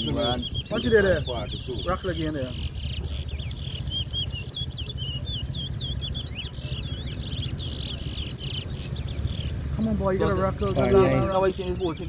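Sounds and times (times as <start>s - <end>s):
finch warbling high chirps: 0.0s - 12.0s
steady low rumble: 0.0s - 12.0s.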